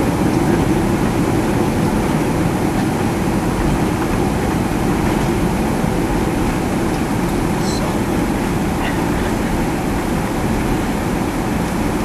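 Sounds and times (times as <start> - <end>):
airplane engine and runway rumble: 0.0 - 12.0.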